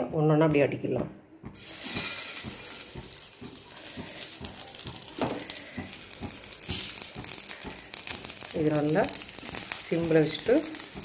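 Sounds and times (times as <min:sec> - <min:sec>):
cutlets sizzling in hot oil: 0:01.6 - 0:11.0.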